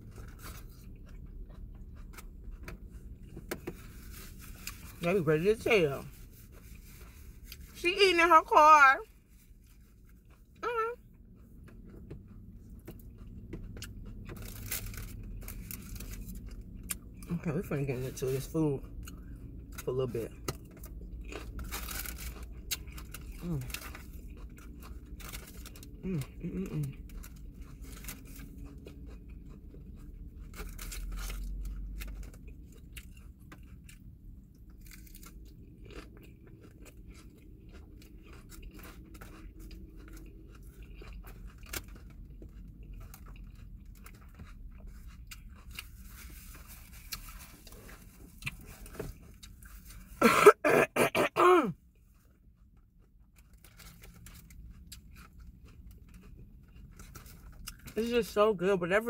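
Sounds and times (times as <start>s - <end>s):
chewing and crunching salad: 0.0s - 50.2s, 51.8s - 59.0s.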